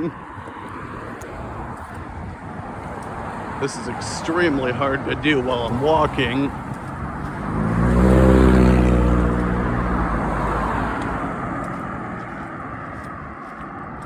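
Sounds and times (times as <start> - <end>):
tyre noise on road: 0.0 - 14.0
vehicle engine hum: 0.0 - 14.0.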